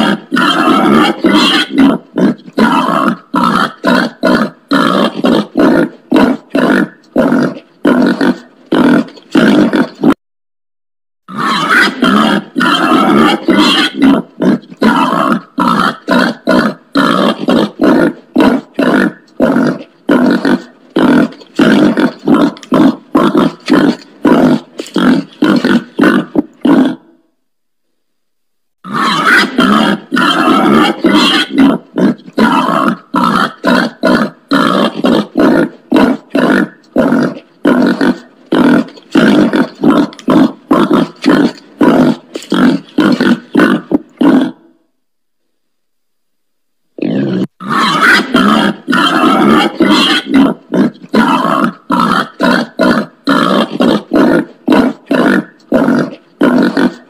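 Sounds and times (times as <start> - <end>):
pig grunting: 0.0 - 10.2, 11.3 - 27.2, 28.8 - 44.8, 47.0 - 57.0.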